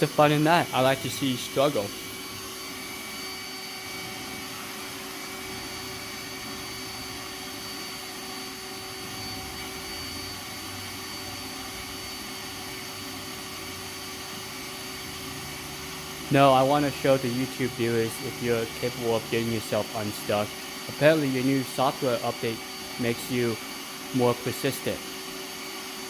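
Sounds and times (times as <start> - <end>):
robot vacuum motor humming: 0.0 - 26.0.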